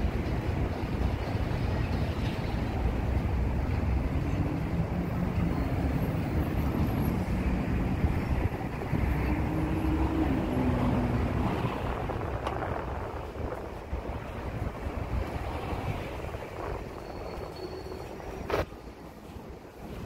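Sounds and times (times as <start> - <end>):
low traffic hum: 0.0 - 20.0
wind rumbling on microphone: 0.0 - 20.0.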